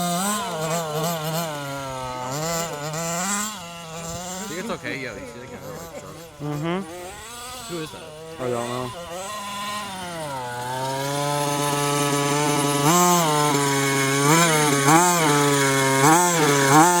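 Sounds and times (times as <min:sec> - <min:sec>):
short throttle blips: 0:00.0 - 0:17.0
small two-stroke engine running: 0:00.0 - 0:17.0.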